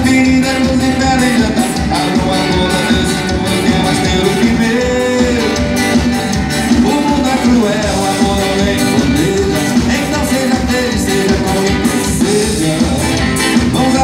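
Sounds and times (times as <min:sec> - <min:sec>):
acoustic guitar: 0:00.0 - 0:14.0
drums: 0:00.0 - 0:14.0
electric guitar: 0:00.0 - 0:14.0
keyboard: 0:00.0 - 0:14.0.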